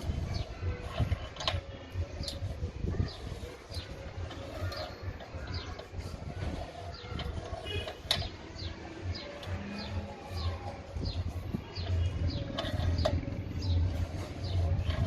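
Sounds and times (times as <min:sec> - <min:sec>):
bird chirping: 0:01.6 - 0:15.0.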